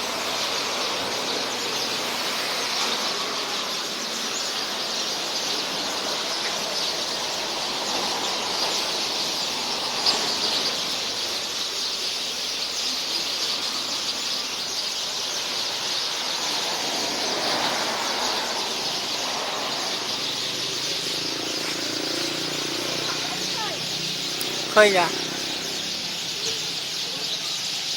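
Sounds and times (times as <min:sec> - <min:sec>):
flock of birds chattering: 0:00.0 - 0:27.9.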